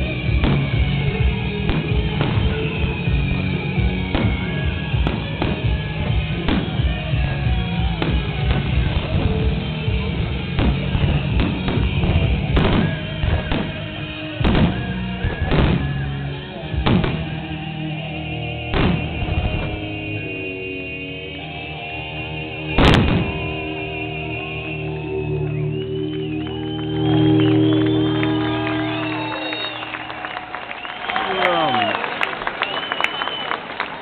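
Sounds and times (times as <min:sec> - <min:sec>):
music playing: 0:00.0 - 0:34.0.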